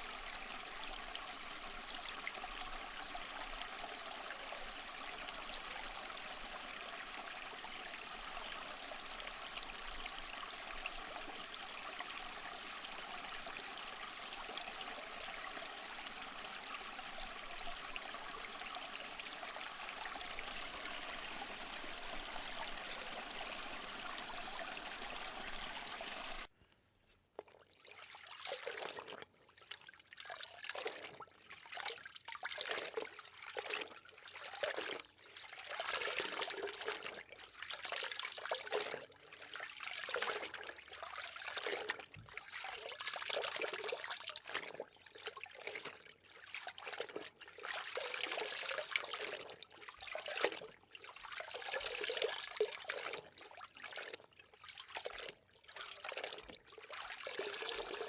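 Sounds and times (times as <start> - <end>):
water trickling and splashing: 0.0 - 26.5, 27.4 - 58.0.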